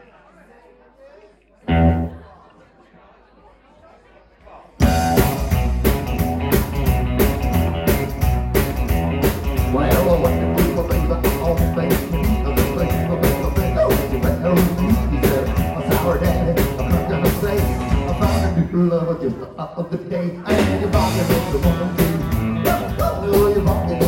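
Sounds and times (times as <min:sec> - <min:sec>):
rockabilly band playing: 0:01.7 - 0:02.3, 0:04.8 - 0:24.0.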